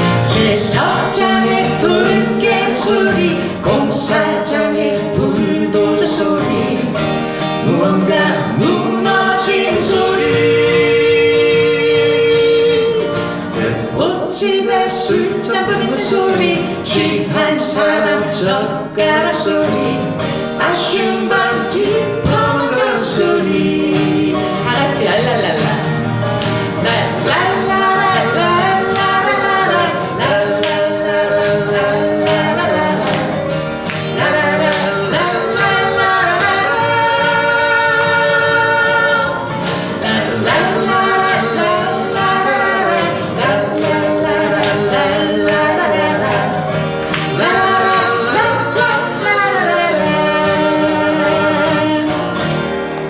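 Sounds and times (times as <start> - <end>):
duet singing with vibrato: 0.0 - 52.9
instrumental accompaniment: 0.0 - 53.0.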